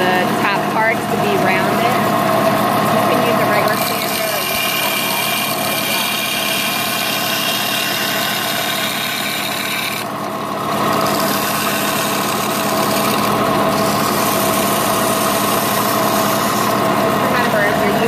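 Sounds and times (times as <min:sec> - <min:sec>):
bandsaw motor hum: 0:00.0 - 0:18.0
bandsaw cutting wood: 0:03.1 - 0:18.0.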